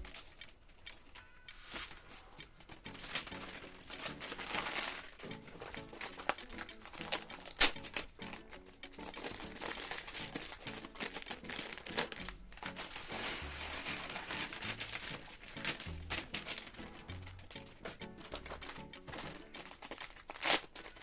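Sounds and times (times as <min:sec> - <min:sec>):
plastic bags crinkling: 0:01.6 - 0:21.0.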